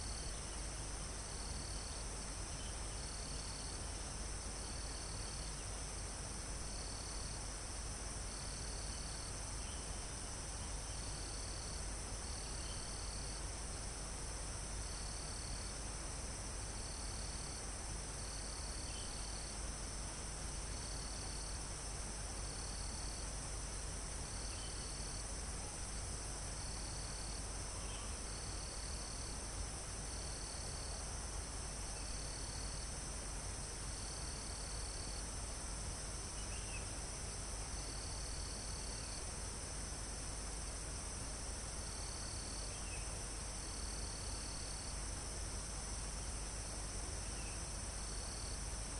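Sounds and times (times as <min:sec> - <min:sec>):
insect chorus: 0:00.0 - 0:48.9.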